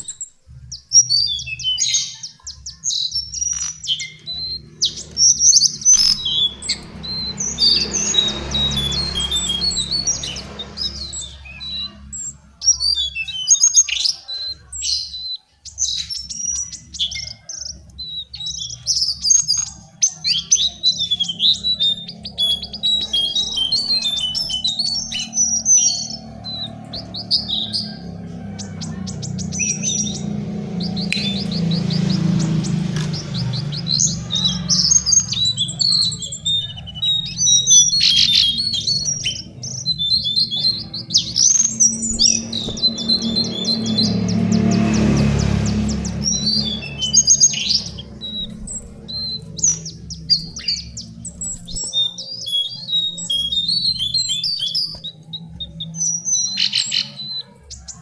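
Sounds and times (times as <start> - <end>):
bird singing twittering phrases: 0.0 - 58.0.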